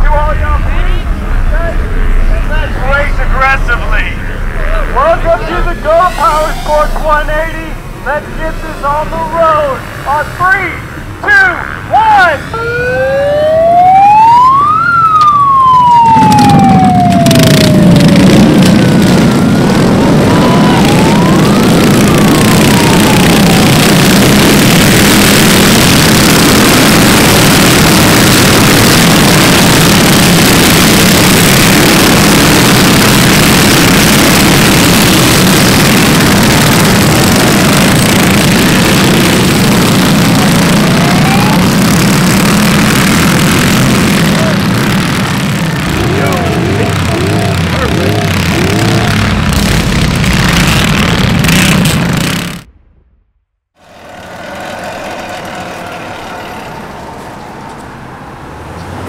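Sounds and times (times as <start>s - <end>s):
siren-like wail: 0.0s - 10.5s, 11.9s - 49.8s, 53.8s - 58.6s
minibike engines revving: 0.0s - 52.6s, 53.8s - 59.0s.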